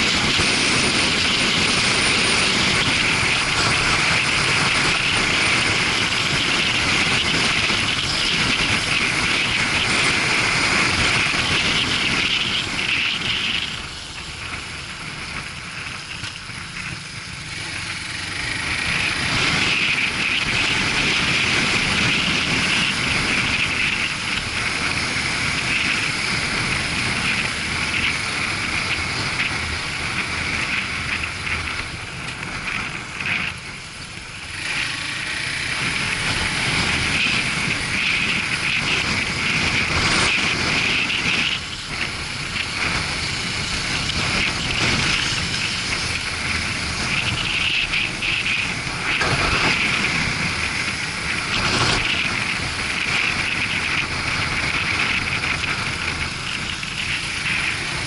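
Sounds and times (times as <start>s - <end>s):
motorcycle engine: 0.0s - 58.0s
rushing wind: 0.0s - 58.0s.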